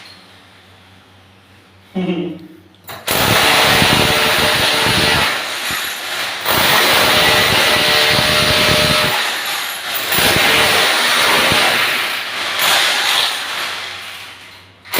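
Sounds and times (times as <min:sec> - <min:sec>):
power tool rattling: 0:02.9 - 0:14.9.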